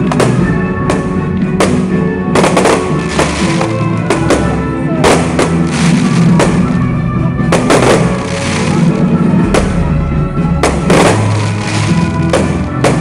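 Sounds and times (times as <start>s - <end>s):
fireworks bangs: 0.0s - 13.0s
loud music: 0.0s - 13.0s.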